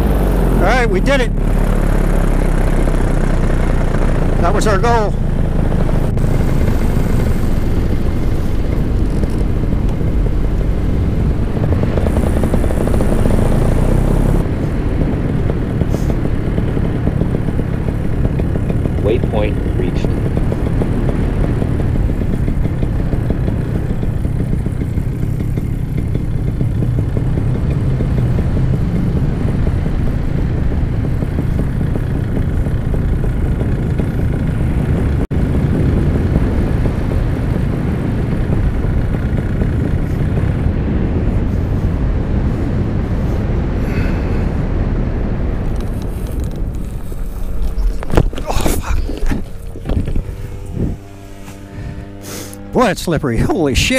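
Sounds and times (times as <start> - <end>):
paramotor engine running: 0.0 - 53.9
wind rushing on microphone: 0.0 - 53.9.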